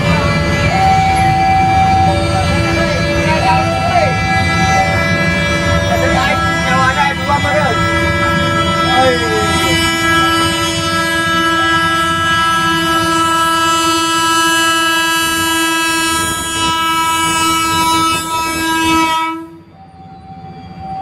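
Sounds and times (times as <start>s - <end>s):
train horn blast: 0.0s - 20.0s
moving train rumble: 0.0s - 21.0s.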